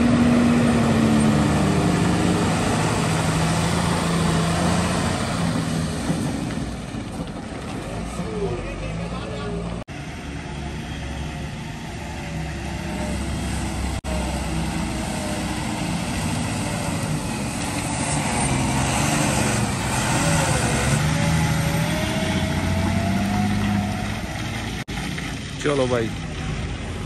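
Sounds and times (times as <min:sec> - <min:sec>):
pitched engine whine: 0:00.0 - 0:07.1, 0:08.2 - 0:27.0
diesel truck engine rumbling: 0:00.0 - 0:27.0.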